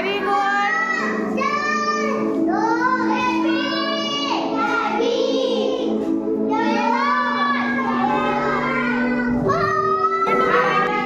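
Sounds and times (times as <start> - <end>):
music accompaniment: 0.0 - 11.0
child singing: 0.6 - 11.0.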